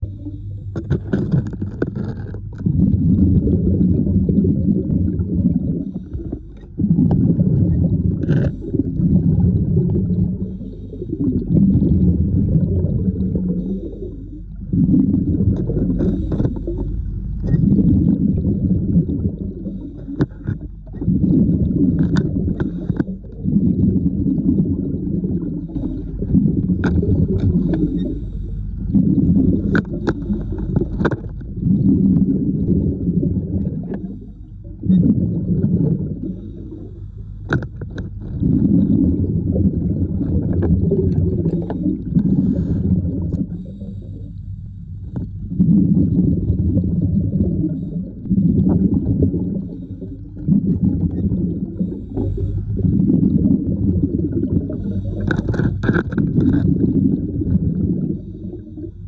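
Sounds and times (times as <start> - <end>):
muffled low water rumbling: 0.0 - 59.0.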